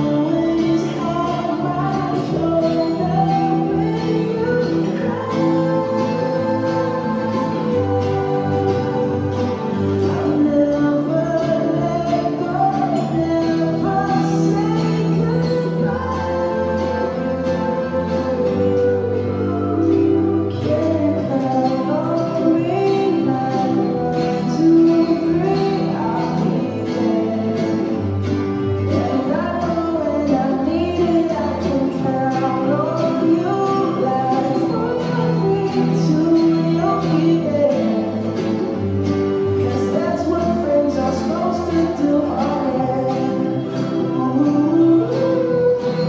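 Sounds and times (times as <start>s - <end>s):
acoustic guitars strumming: 0.0s - 46.0s
person singing: 0.0s - 46.0s.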